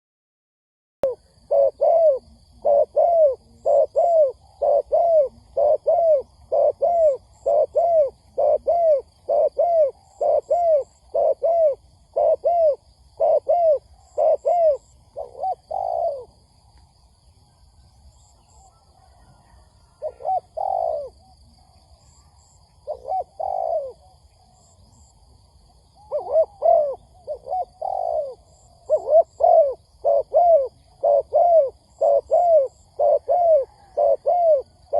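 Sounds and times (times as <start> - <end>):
dove cooing: 1.0 - 16.5, 18.1 - 34.9.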